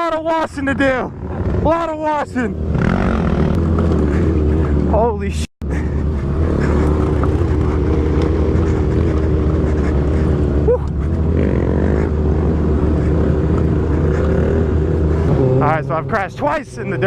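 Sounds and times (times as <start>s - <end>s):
motorcycle engine running: 0.8s - 17.0s.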